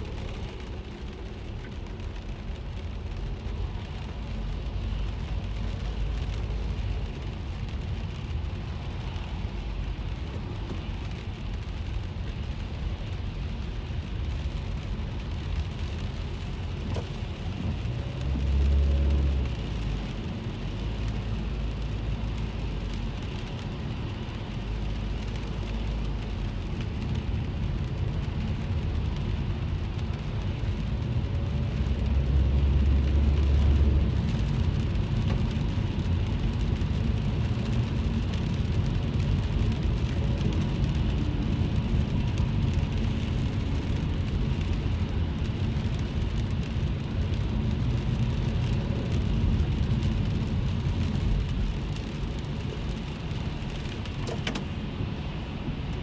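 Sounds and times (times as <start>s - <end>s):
rain and wet tyres hissing: 0.0s - 56.0s
road and engine rumble: 0.0s - 56.0s.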